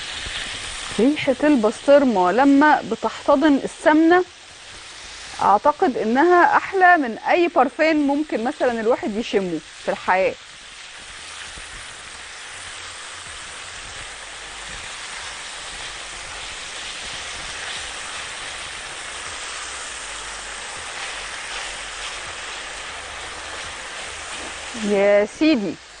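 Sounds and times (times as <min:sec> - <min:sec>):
meat frying in a pan: 0:00.0 - 0:26.0.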